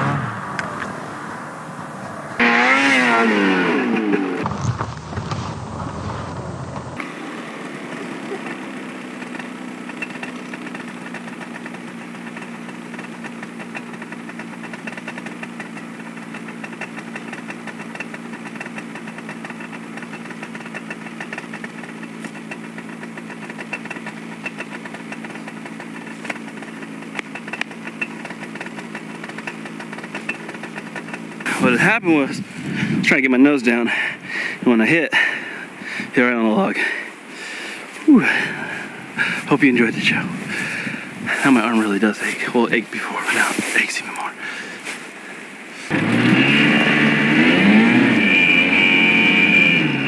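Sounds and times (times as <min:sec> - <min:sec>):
snowmobile engine idling: 0:02.4 - 0:50.0.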